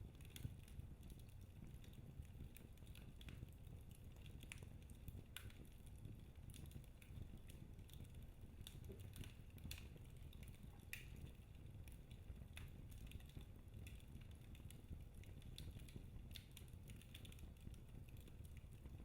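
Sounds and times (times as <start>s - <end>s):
log fire crackling: 0.0s - 19.0s.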